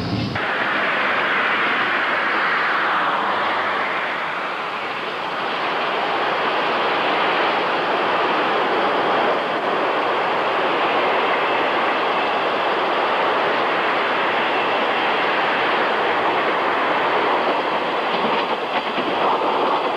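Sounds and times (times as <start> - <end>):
electric train rolling on rails: 0.0 - 19.9.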